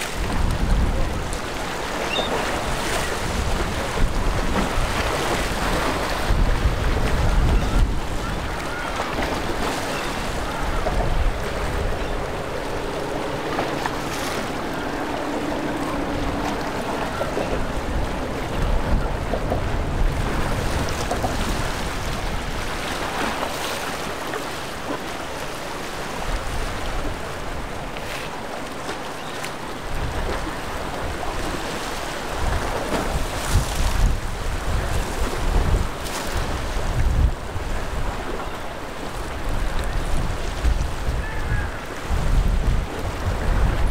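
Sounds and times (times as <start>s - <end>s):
wind buffeting microphone: 0.0s - 23.4s, 29.8s - 43.9s
sea water splashing around pilings: 0.0s - 43.9s.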